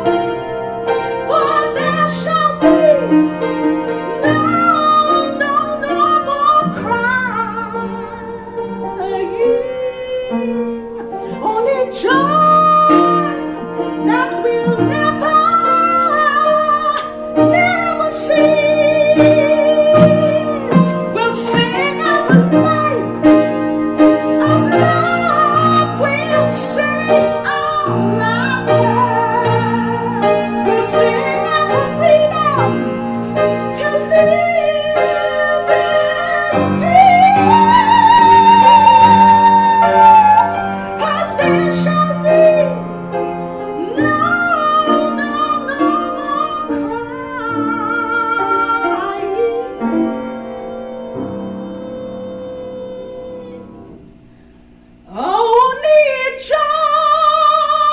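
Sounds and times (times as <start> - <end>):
woman singing: 0.0 - 54.0, 55.1 - 57.9.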